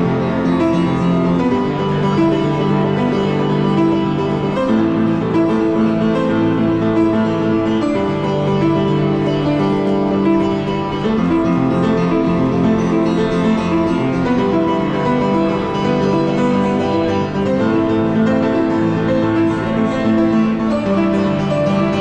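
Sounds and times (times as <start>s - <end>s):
piano piece: 0.0s - 22.0s.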